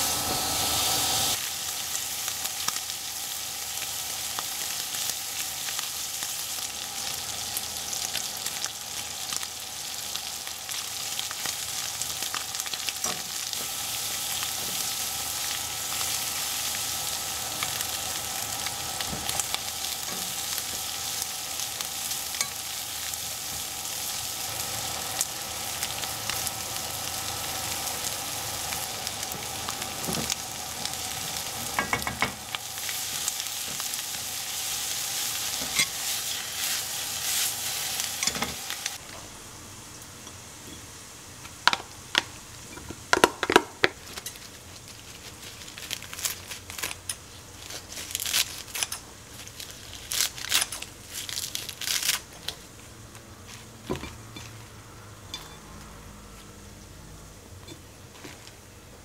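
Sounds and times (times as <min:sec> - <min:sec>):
food sizzling in fat: 0:00.0 - 0:56.8.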